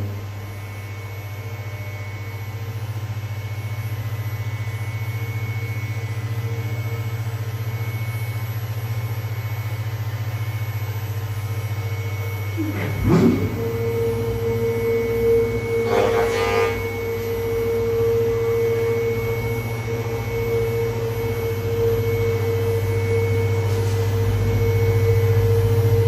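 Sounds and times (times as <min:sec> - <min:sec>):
faint high whine: 0:00.0 - 0:26.0
milling machine humming: 0:00.0 - 0:26.0.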